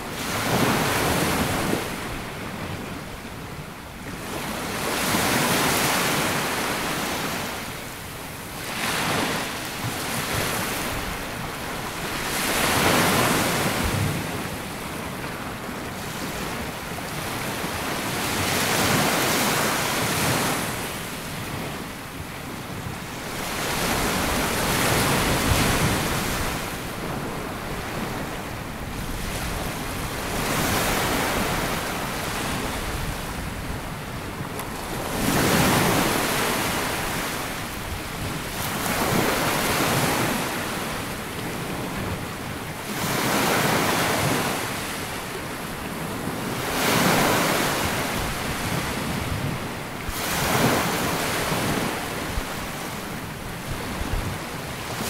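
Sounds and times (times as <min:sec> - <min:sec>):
small waves breaking on beach: 0:00.0 - 0:55.0
wind on microphone: 0:00.0 - 0:55.0.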